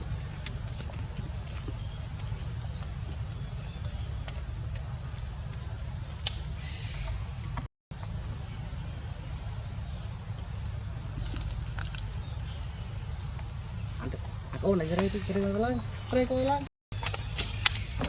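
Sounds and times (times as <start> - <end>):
birds chirping: 0.0 - 18.0
insects chirping: 0.0 - 18.0.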